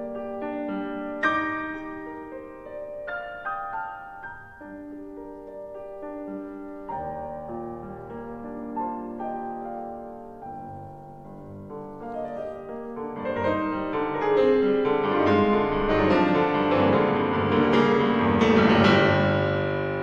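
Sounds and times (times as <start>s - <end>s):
solo piano classical piece: 0.0s - 20.0s.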